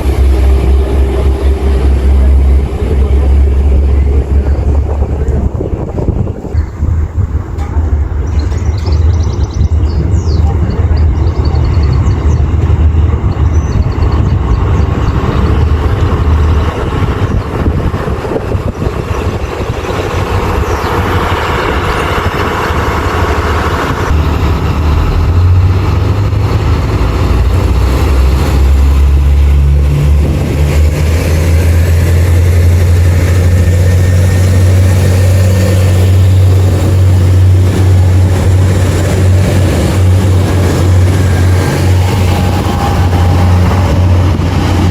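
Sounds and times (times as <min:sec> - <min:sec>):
train diesel engine drone: 0:00.0 - 0:44.9.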